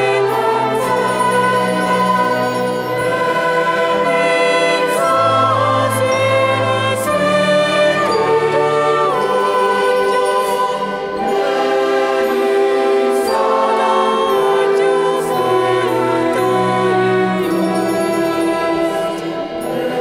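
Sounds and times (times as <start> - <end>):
choir singing held chords: 0.0 - 20.0
flutes: 0.0 - 20.0.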